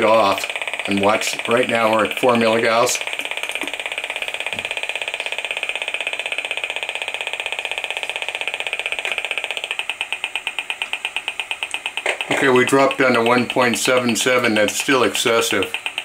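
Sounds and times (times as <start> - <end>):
magnetic field meter buzzing ticks: 0.0 - 16.0.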